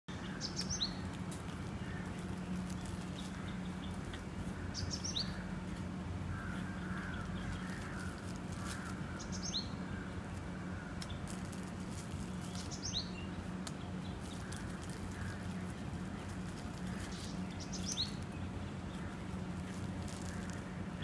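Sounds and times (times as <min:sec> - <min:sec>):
faint bird calls: 0:00.1 - 0:21.0
steady low hum: 0:00.1 - 0:21.0.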